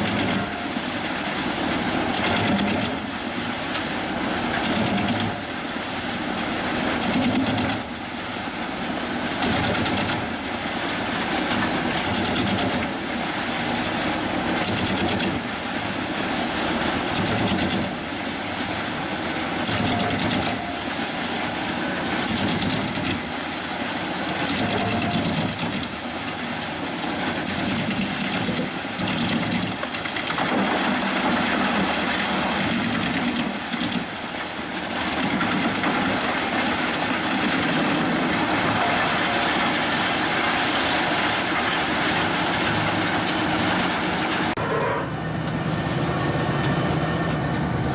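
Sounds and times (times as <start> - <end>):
wood chipper running: 0.0 - 47.9.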